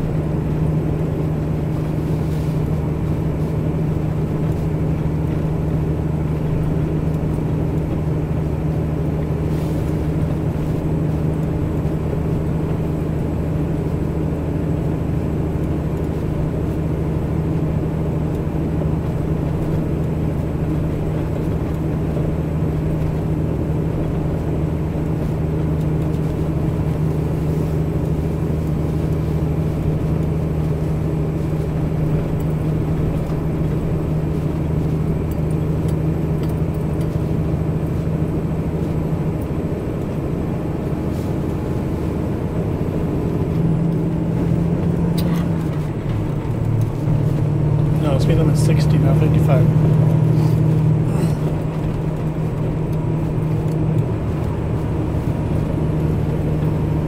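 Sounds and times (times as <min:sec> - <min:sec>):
diesel truck engine droning: 0:00.0 - 0:57.0
road noise: 0:00.0 - 0:57.0.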